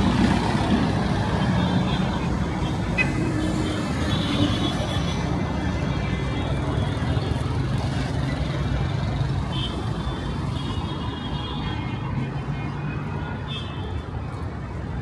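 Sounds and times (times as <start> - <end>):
low hum of traffic: 0.0 - 15.0.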